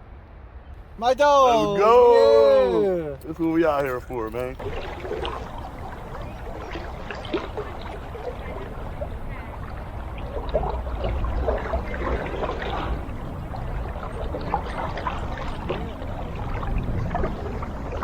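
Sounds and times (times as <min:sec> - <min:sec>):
creek water trickling: 0:02.9 - 0:18.0.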